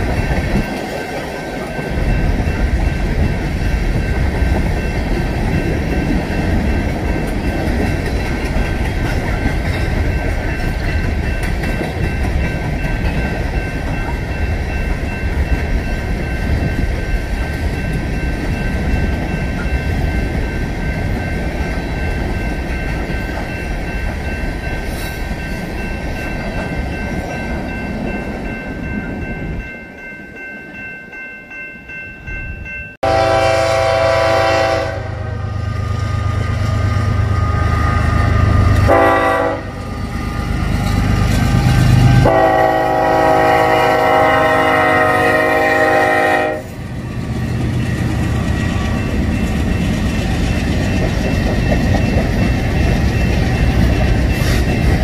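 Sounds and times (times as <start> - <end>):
train wheels rumbling on rails: 0.0 - 30.4, 33.3 - 55.0.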